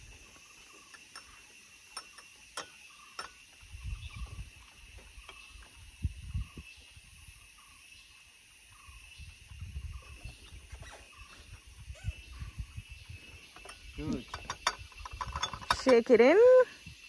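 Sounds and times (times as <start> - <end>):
faint bird calls: 0.4 - 15.4.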